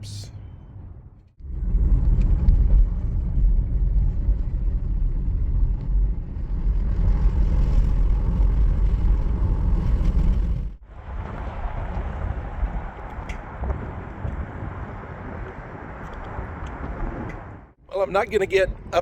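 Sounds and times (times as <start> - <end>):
gusty wind buffeting microphone: 0.3 - 19.0.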